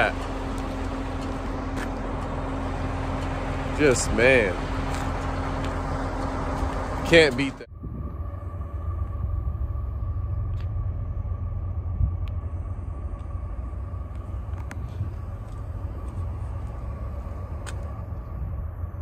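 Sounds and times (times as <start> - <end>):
faint steady whine: 0.0 - 19.0
truck engine and road rumble: 0.0 - 19.0.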